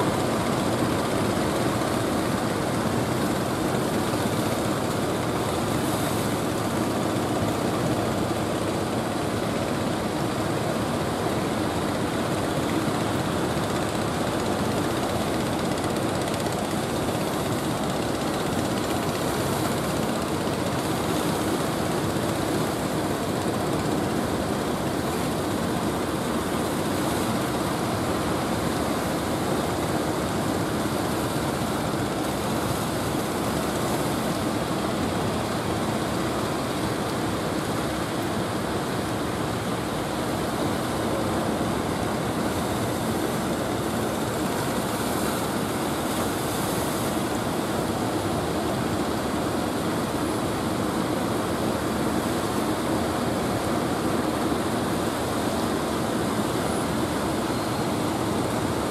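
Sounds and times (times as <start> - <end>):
wind: 0.0 - 58.9.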